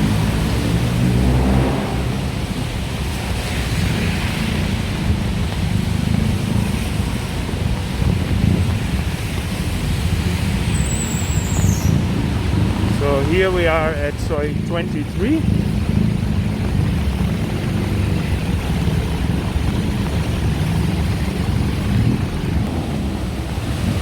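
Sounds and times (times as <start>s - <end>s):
engine running close by: 0.0s - 24.0s
road traffic rumble: 0.0s - 24.0s.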